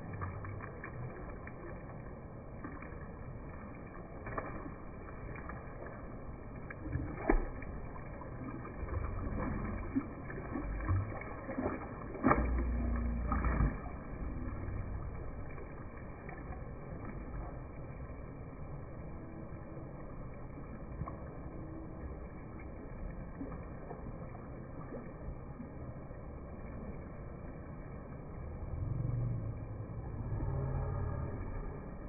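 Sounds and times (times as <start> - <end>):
low rumbling outdoor noise: 0.0 - 32.0.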